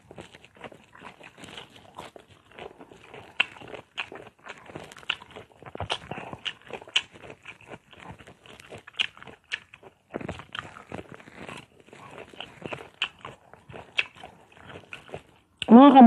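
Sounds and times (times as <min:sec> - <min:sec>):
crunching and chewing mango: 0:00.0 - 0:16.0.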